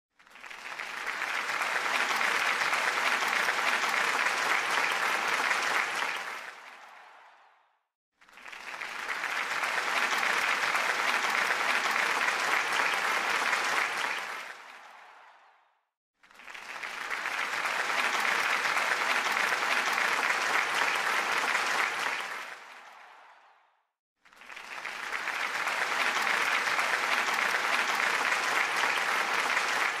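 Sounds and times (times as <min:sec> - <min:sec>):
crowd applause: 0:00.1 - 0:30.0.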